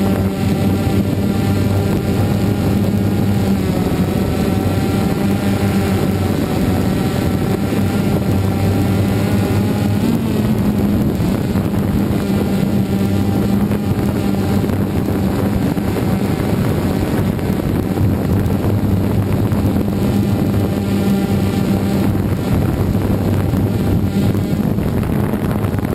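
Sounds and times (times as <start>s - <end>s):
drone motors and propellers: 0.0s - 25.9s.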